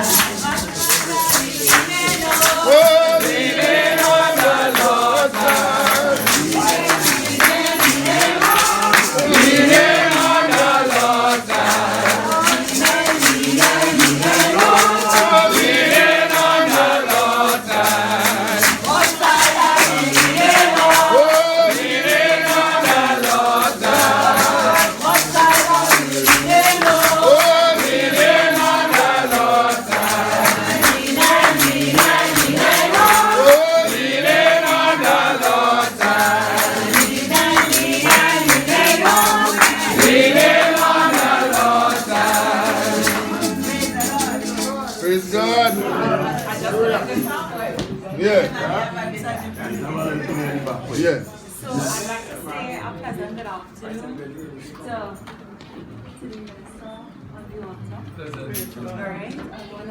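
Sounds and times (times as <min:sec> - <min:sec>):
congregation singing a hymn: 0:00.0 - 0:52.4
rhythmic percussion: 0:00.0 - 0:53.5.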